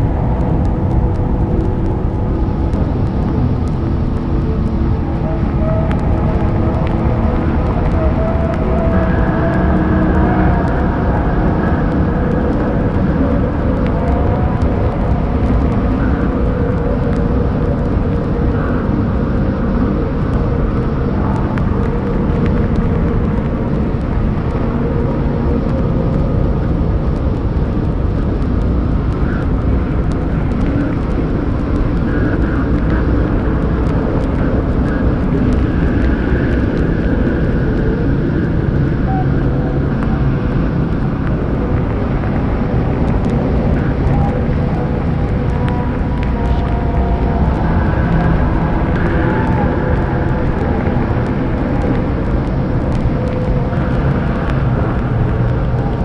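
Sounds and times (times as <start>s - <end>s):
faint smeared record tones: 0.0s - 56.0s
record crackle: 0.0s - 56.0s
rumbling drone music: 0.0s - 56.0s.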